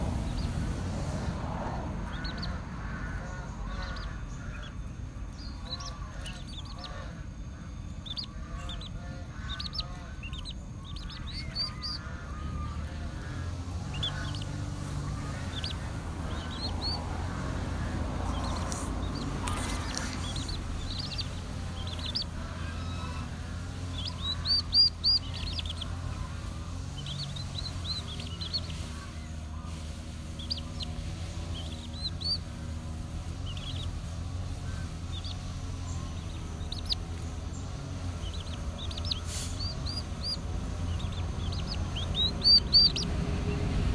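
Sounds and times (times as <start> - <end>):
chicks peeping: 0.0 - 43.9
geese honking: 0.0 - 43.9.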